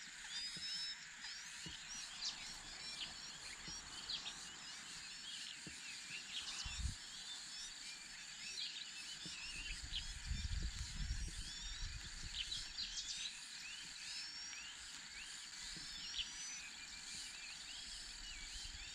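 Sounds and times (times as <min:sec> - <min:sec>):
birds chirping: 0:00.0 - 0:18.9
high-pitched insect drone: 0:00.0 - 0:18.9.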